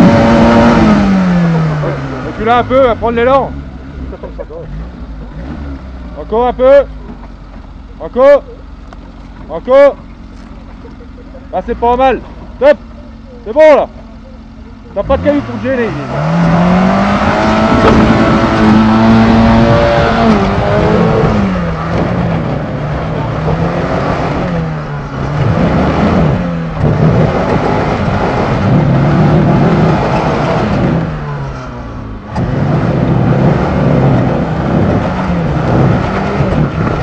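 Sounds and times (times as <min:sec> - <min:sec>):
engine revving under load: 0:00.0 - 0:07.2, 0:10.7 - 0:37.0.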